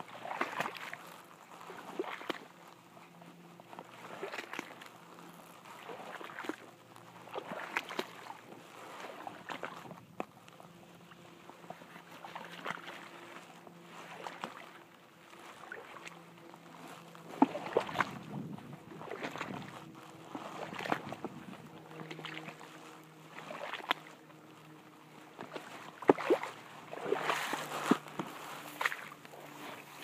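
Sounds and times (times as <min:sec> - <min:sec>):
wading through shallow water: 0:00.0 - 0:30.0.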